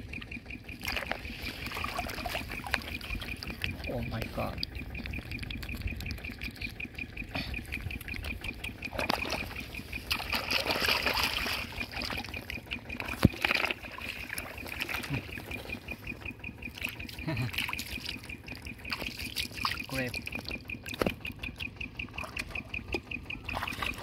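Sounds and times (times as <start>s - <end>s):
high pulsing buzz: 0.0s - 24.0s
water sloshing and trickling: 0.0s - 24.0s.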